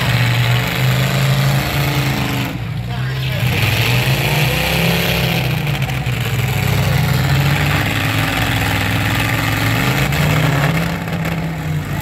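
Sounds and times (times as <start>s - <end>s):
truck engines droning: 0.0s - 12.0s.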